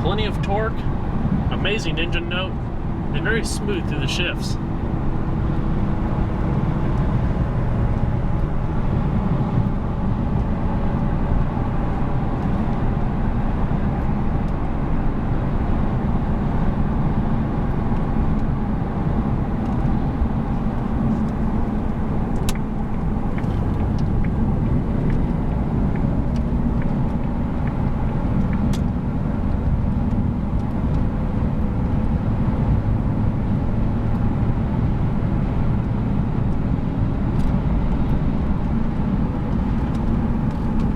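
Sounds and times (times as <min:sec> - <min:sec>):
car engine running: 0:00.0 - 0:36.2, 0:37.4 - 0:40.9
tyre and road noise: 0:00.0 - 0:40.9.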